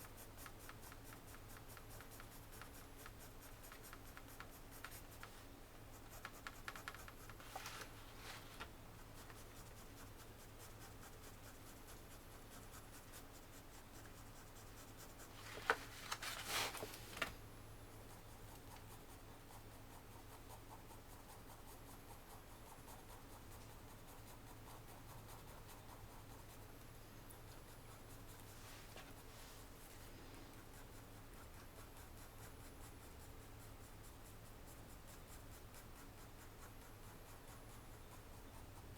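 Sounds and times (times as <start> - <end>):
pencil scratching on paper: 0.0 - 8.0, 9.0 - 16.8, 18.1 - 38.9.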